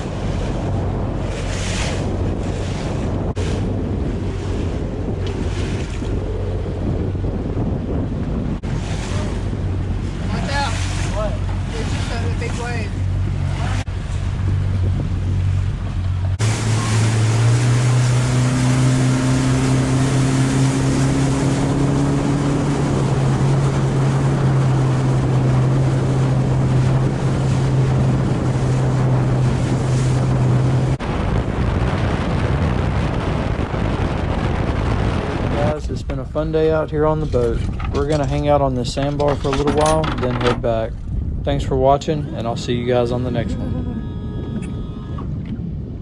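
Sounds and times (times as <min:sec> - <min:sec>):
outboard motor running: 0:00.0 - 0:46.0
water rushing past hull: 0:00.0 - 0:46.0
wind on microphone: 0:00.0 - 0:46.0.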